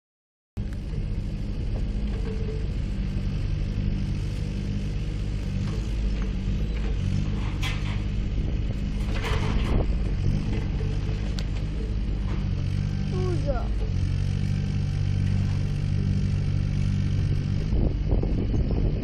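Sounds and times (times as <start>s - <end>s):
diesel engine under load: 0.6s - 19.0s.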